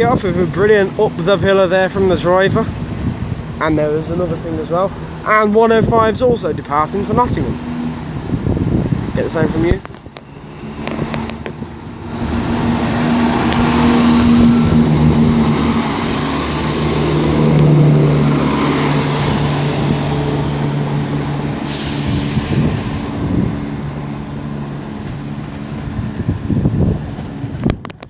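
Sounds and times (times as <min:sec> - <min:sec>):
diesel train engines running: 0:00.0 - 0:27.8.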